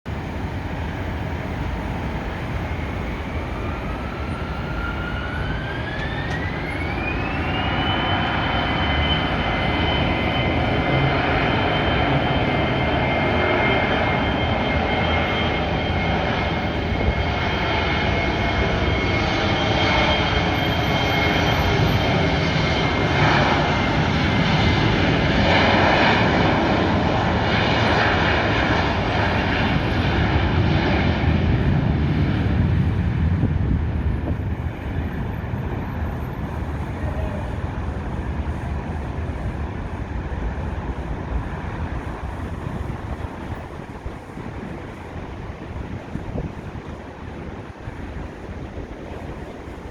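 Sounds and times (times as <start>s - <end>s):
jet engine whine: 0.0s - 49.9s
jet roar: 0.1s - 49.9s.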